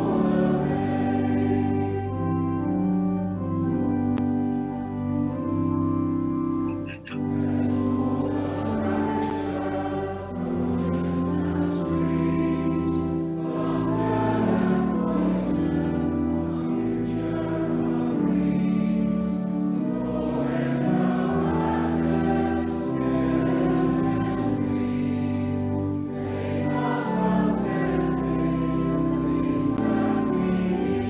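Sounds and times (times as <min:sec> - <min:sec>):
choir singing a slow hymn: 0:00.0 - 0:05.6, 0:06.8 - 0:31.0
organ accompaniment: 0:00.0 - 0:31.0.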